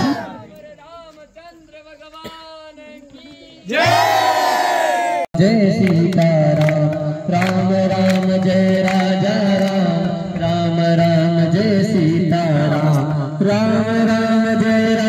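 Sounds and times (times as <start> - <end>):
devotional chanting: 0.0 - 4.4, 5.4 - 15.0.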